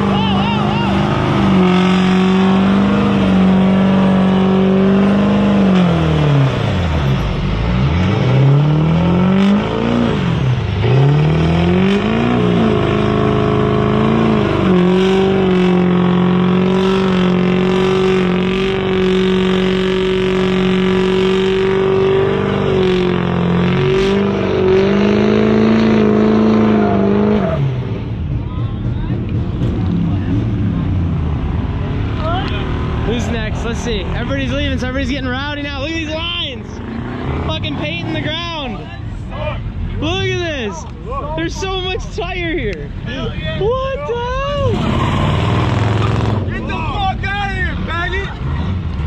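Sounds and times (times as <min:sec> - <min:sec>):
truck engine revving high: 0:00.0 - 0:28.5, 0:29.1 - 0:49.0.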